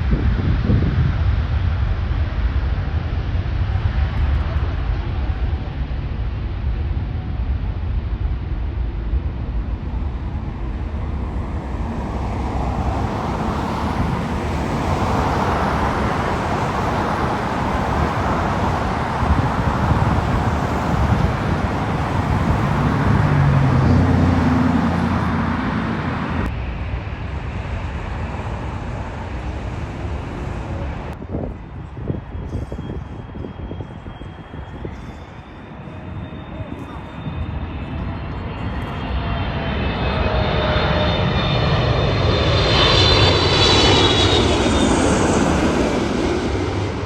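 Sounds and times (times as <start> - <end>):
jet airliner passing: 0.0 - 47.0.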